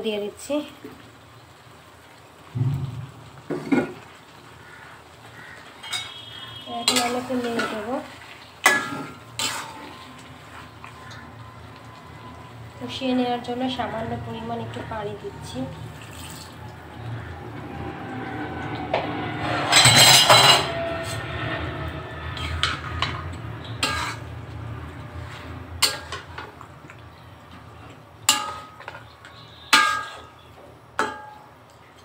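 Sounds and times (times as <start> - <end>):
water splashing into a pan: 0.8 - 21.1, 21.7 - 32.0.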